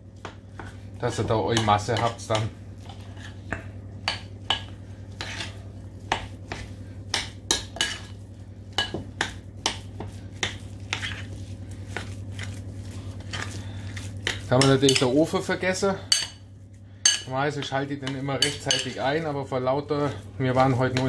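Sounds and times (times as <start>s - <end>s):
meat paste stirred in a bowl: 0.0s - 21.0s.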